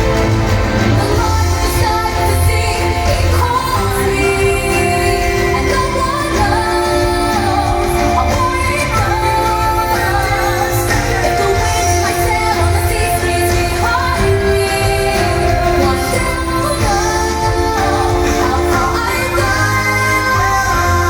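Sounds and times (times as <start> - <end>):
soundtrack music with singing: 0.0 - 21.0.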